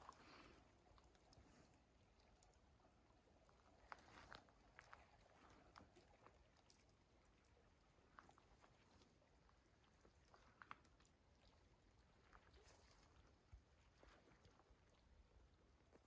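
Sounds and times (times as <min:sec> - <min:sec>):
faint campfire coals crackling: 0:00.0 - 0:16.0.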